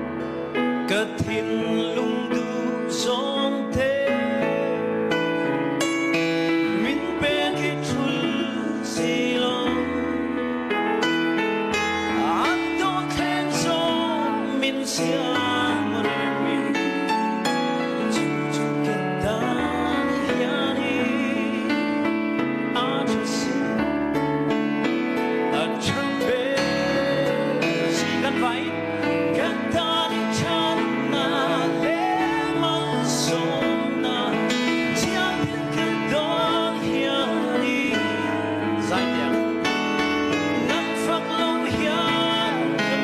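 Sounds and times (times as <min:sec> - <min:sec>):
instrumental backing music: 0:00.0 - 0:43.0
man singing with vibrato: 0:00.0 - 0:43.0.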